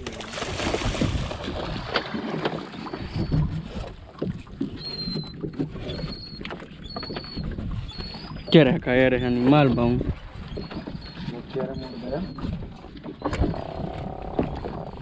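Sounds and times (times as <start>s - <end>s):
water sloshing against hull: 0.0s - 15.0s.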